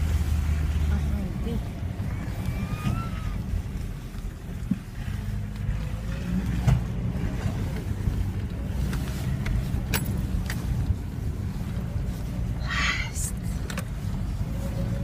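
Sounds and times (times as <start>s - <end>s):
car driving over bumpy ground: 0.0s - 15.0s.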